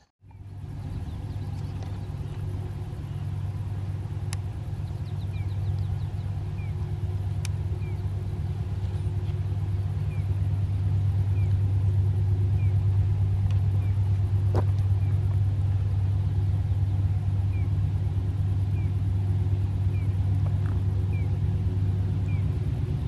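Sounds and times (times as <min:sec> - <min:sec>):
diesel locomotive drone: 0:00.0 - 0:23.0.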